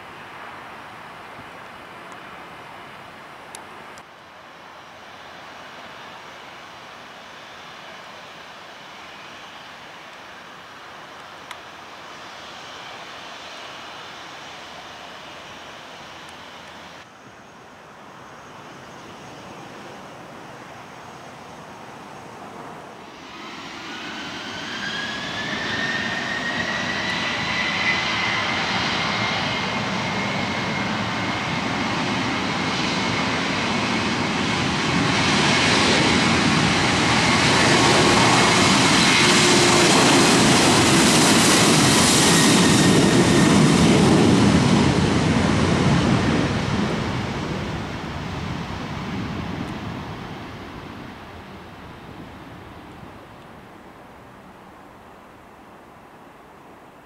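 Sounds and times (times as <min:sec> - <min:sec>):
jet engines whining at takeoff: 0:00.0 - 0:17.3, 0:17.9 - 0:55.2.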